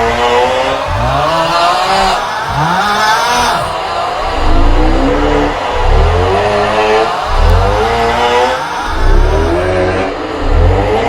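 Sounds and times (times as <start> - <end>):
rasping snore-groan: 0.0 - 11.0.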